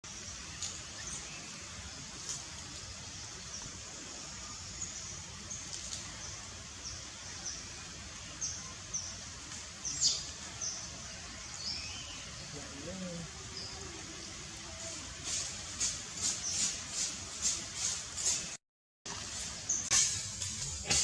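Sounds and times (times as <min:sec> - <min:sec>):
small birds chirping: 0:00.1 - 0:18.6
steady background hiss: 0:00.1 - 0:21.0.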